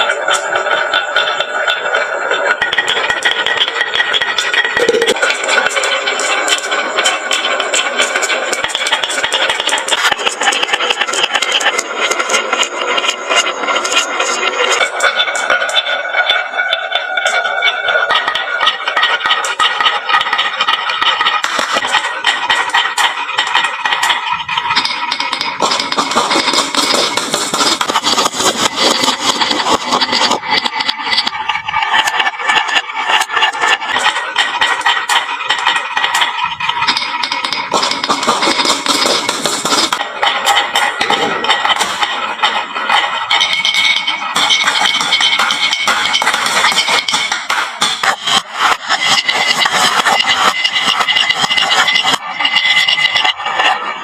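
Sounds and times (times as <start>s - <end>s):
low rumble of rolling marbles: 0.0s - 46.8s
glass marbles rolling and clacking: 0.0s - 54.0s.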